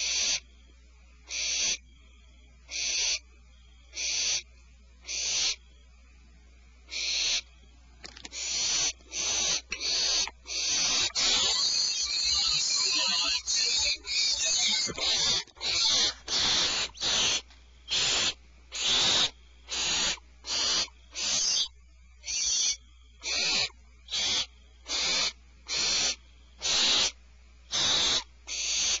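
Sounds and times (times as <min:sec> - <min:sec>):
barn owls screeching: 0:00.0 - 0:00.4, 0:01.3 - 0:01.8, 0:02.7 - 0:03.3, 0:03.9 - 0:05.6, 0:06.9 - 0:07.5, 0:08.3 - 0:29.0.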